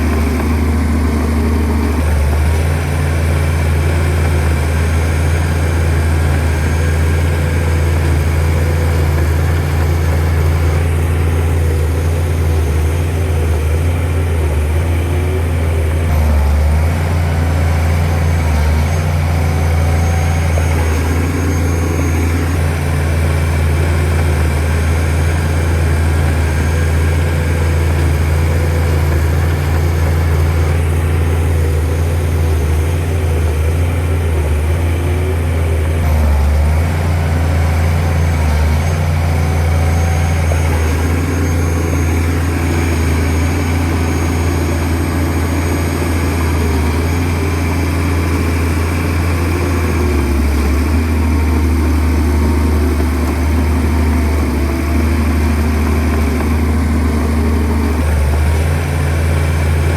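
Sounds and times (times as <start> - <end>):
bulldozer diesel engine drone: 0.0 - 59.9
higher engine tone: 0.0 - 59.9.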